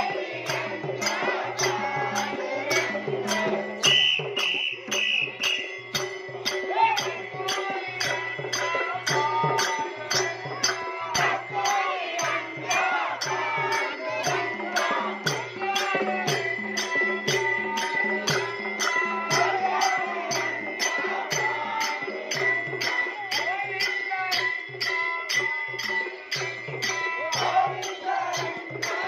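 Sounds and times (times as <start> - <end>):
drum beat: 0.0 - 29.0
jingling percussion: 0.0 - 29.0
voices singing devotional song: 0.0 - 29.0.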